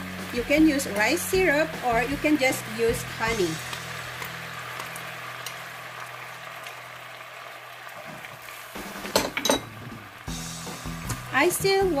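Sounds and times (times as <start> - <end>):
sauce bubbling and sizzling in pan: 0.0 - 12.0.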